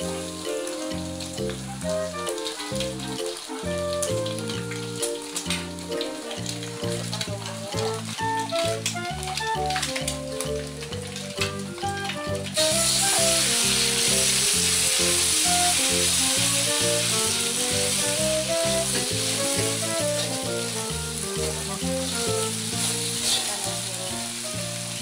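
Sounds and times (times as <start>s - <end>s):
background music: 0.0s - 25.0s
egg sizzling in oil: 0.0s - 25.0s
metal spatula stirring: 0.1s - 24.2s.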